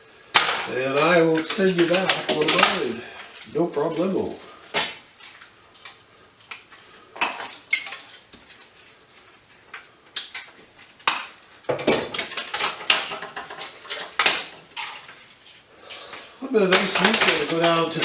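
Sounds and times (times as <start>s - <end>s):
metal pieces clinking and clattering: 0.3s - 8.9s, 9.7s - 15.6s, 16.5s - 18.0s.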